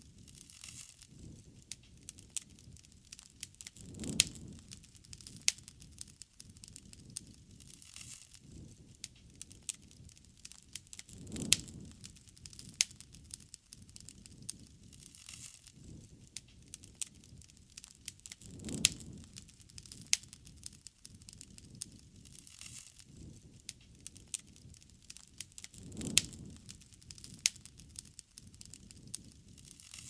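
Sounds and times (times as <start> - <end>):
campfire crackling and popping: 0.0 - 30.0
low rush of flame: 0.0 - 30.0.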